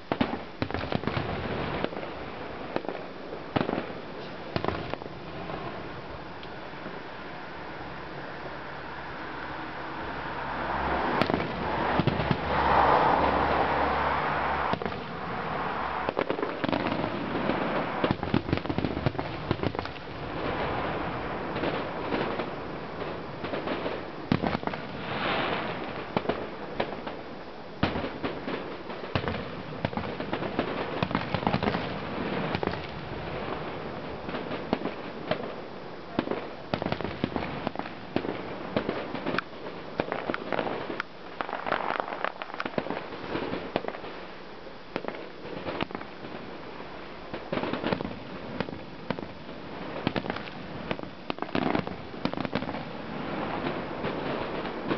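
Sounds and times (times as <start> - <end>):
fireworks bangs and crackling pops: 0.0 - 7.4, 10.2 - 54.9.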